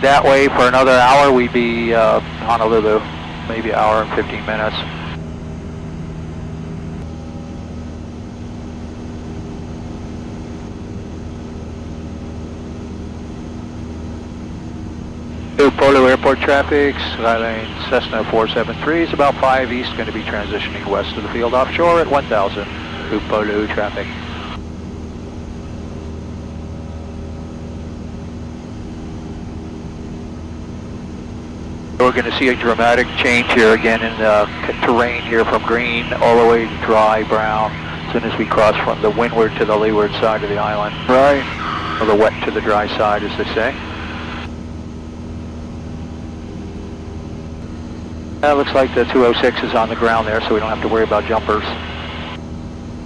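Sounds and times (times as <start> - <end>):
propeller plane engine droning: 0.0 - 53.0.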